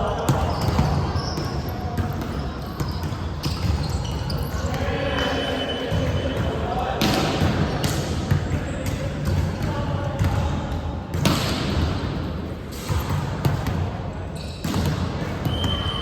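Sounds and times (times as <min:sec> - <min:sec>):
volleyball smacks echoing in gym: 0:00.0 - 0:16.0.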